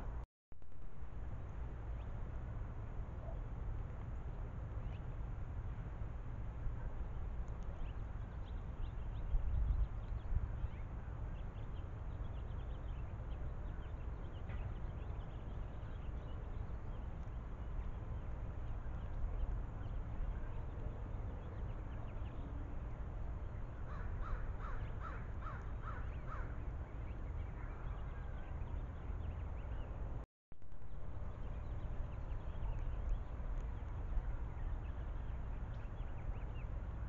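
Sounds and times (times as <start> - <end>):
low background rumble: 0.0 - 37.0.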